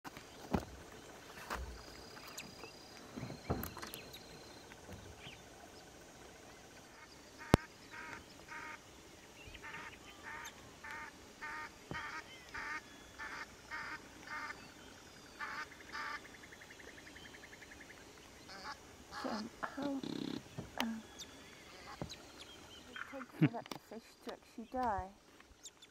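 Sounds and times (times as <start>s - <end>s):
bird calling: 0.1s - 25.9s.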